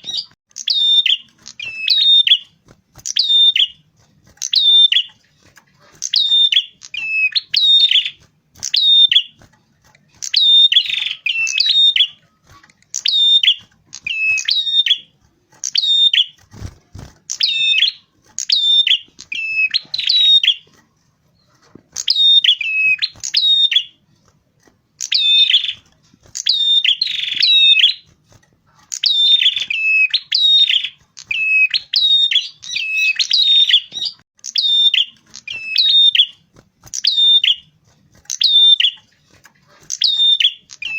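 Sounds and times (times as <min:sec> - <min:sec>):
songbird high zigzag chirps: 0:00.0 - 0:40.9.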